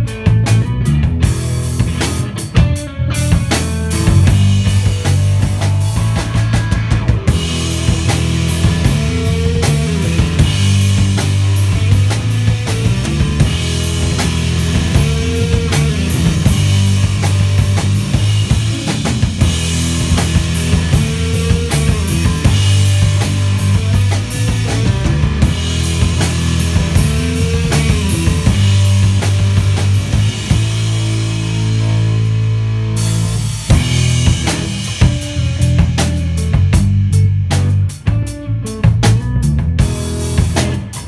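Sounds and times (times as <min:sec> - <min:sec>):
drum kit: 0:00.0 - 0:41.0
heavy bass line: 0:00.0 - 0:41.0
rock band playing riff: 0:00.0 - 0:41.0.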